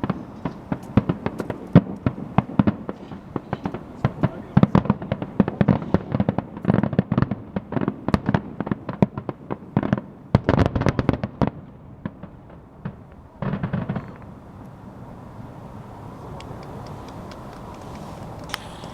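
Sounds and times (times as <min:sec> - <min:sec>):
fireworks bangs and crackles: 0:00.0 - 0:15.5.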